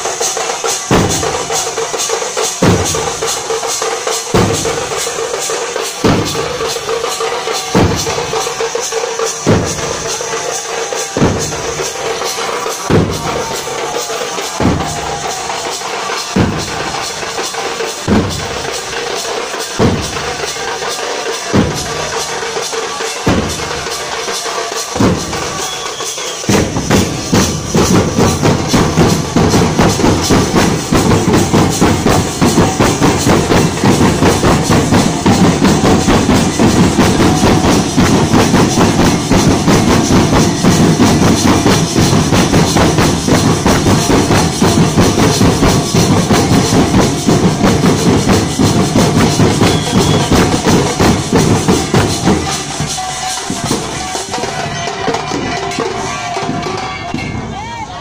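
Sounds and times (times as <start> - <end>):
barrel drums beaten fast: 0.0 - 58.0.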